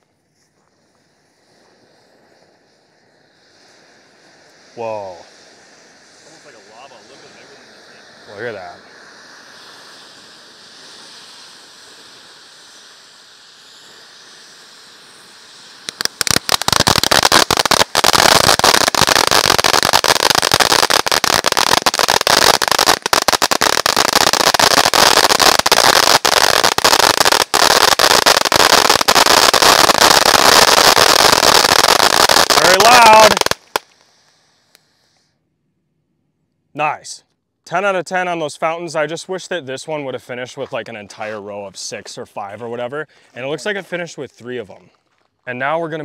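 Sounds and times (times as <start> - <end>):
firework fountain hissing: 0.0 - 35.4, 36.8 - 44.8
firework stars crackling loudly: 0.0 - 35.4, 36.8 - 46.0.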